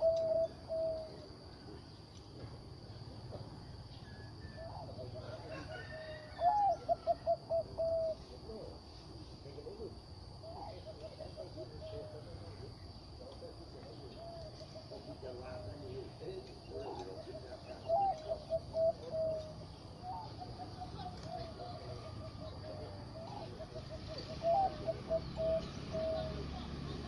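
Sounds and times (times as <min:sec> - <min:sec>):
dove cooing: 0:00.0 - 0:01.8, 0:04.1 - 0:08.8, 0:09.6 - 0:27.0.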